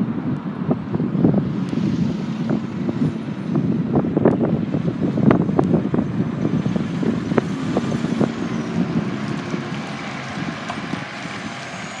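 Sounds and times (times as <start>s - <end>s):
truck diesel engine and tyres: 0.0s - 12.0s.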